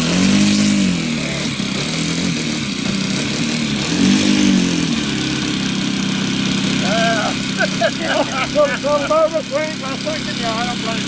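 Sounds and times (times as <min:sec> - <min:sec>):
model plane engine running: 0:00.0 - 0:11.0.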